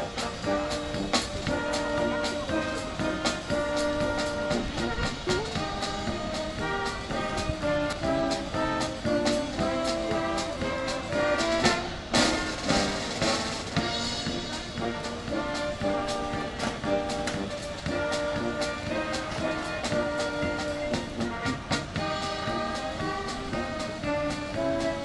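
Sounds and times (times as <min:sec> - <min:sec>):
brass band horns: 0:00.0 - 0:25.0
drum beat: 0:00.0 - 0:25.0.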